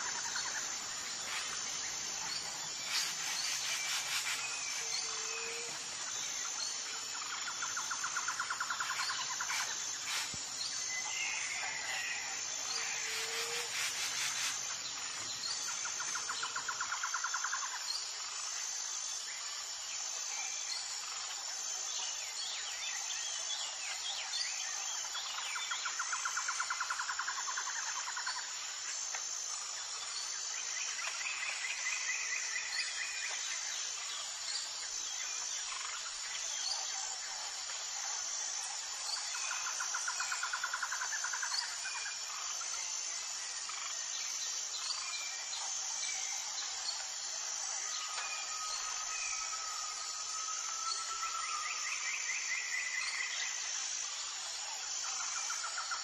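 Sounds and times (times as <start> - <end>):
insects trilling: 0.0 - 56.0
lower pulsed insect trill: 0.0 - 56.0.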